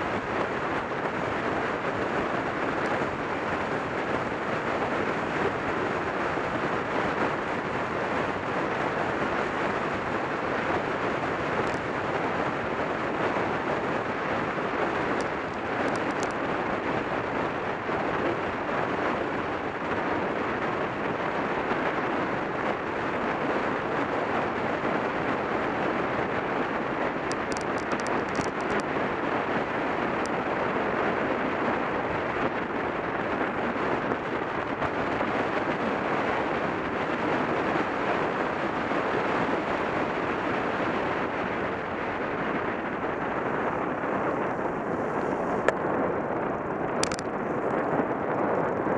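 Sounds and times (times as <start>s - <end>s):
wind noise on microphone: 0.0s - 48.9s.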